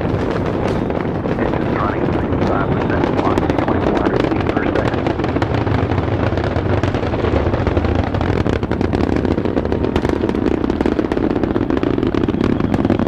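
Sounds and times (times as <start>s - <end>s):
rocket exhaust rumble and crackle: 0.0s - 13.0s.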